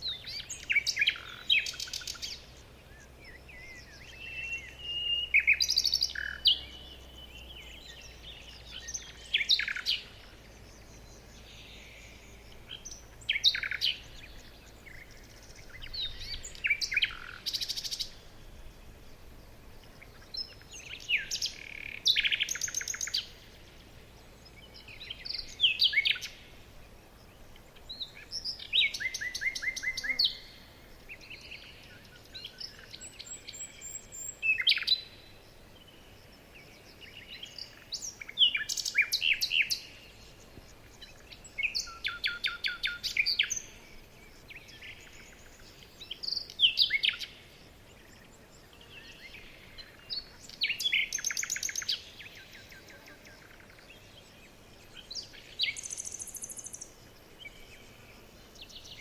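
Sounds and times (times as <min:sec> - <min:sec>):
songbird singing trills: 0:00.0 - 0:59.0.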